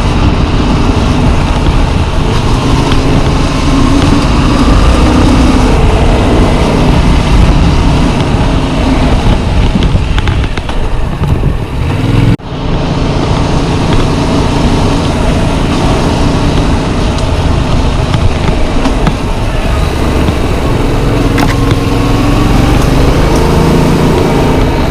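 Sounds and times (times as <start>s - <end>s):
motorcycle engine running: 0.0s - 24.9s
wind buffeting microphone: 0.0s - 24.9s.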